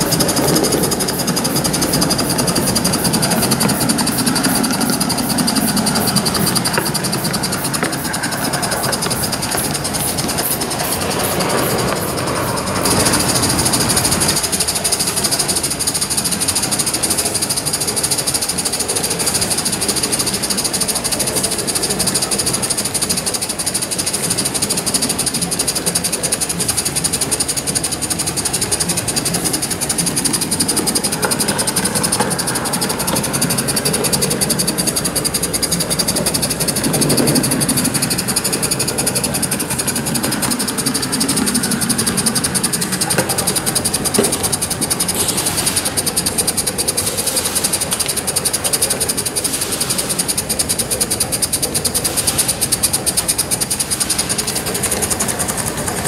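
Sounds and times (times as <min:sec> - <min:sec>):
model steam locomotive chatter: 0:00.0 - 0:56.0
steam hissing: 0:00.0 - 0:56.0.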